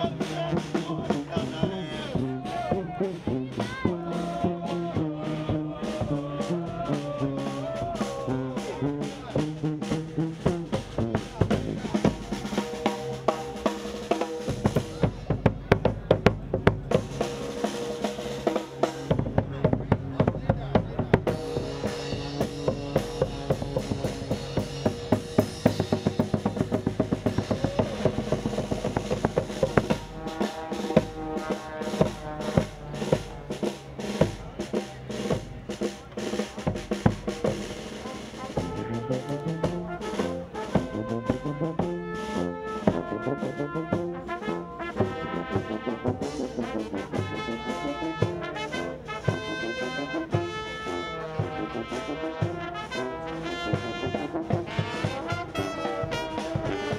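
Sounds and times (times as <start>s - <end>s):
band playing live: 0.0s - 56.9s
brass horns: 0.0s - 56.9s
snare drum strokes: 0.0s - 56.9s.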